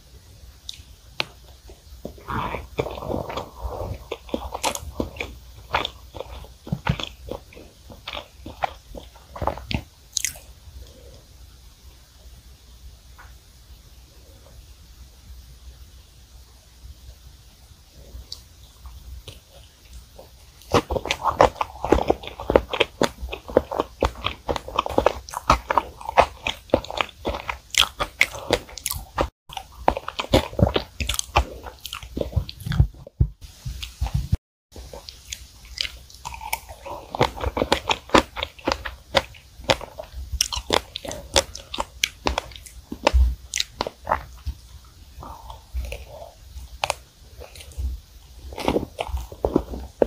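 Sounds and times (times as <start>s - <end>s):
close-miked chewing: 0.6s - 11.2s, 18.1s - 50.0s.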